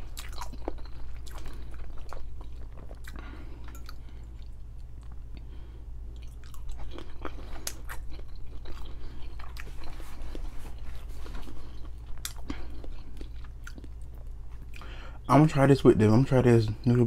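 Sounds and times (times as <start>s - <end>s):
person chewing with wet smacks: 0.0s - 14.9s.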